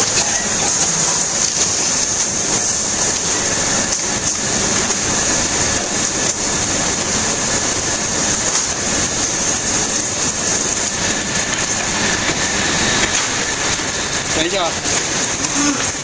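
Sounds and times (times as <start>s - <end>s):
printing machine running: 0.0s - 16.0s.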